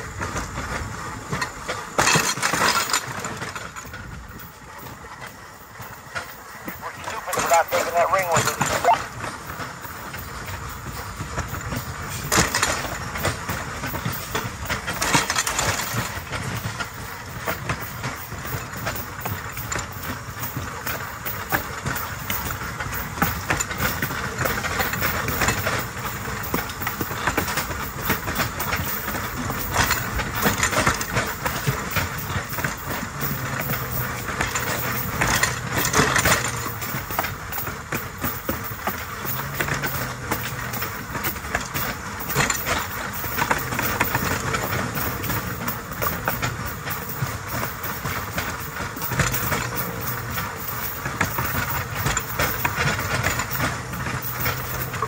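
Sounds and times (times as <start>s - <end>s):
steel wheels clattering on track: 0.0s - 55.0s.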